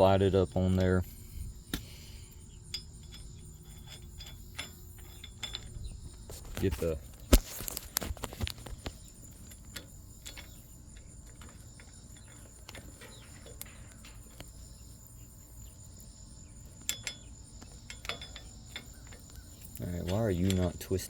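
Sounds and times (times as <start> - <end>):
crickets chirping: 0.0 - 21.0
metal clinking: 0.6 - 21.0.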